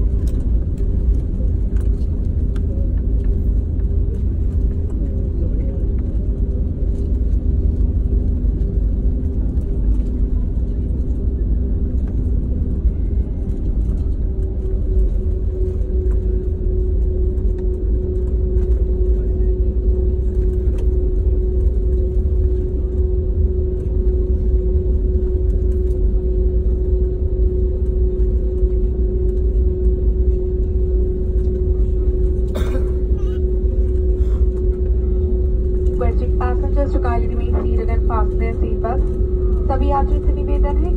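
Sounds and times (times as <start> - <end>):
airliner cabin rumble: 0.0 - 40.9
steady hum: 0.0 - 40.9.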